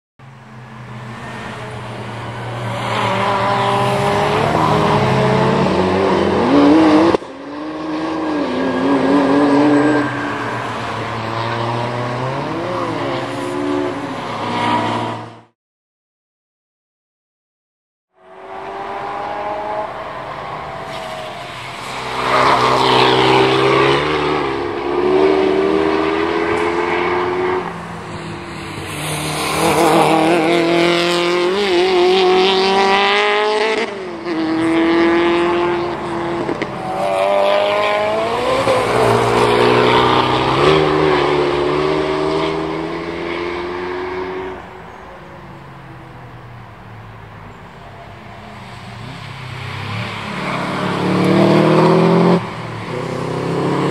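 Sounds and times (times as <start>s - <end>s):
racing car engines revving: 0.4s - 15.6s, 18.2s - 53.9s.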